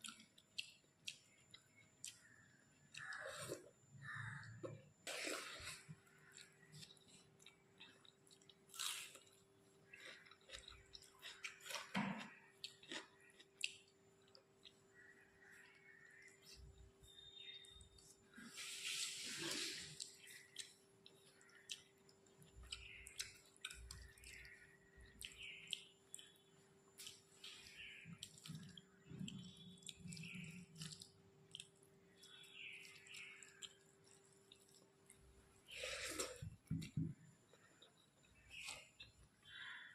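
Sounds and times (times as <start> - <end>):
close chewing with wet smacks: 0.0 - 3.6, 4.9 - 15.2, 18.9 - 39.2.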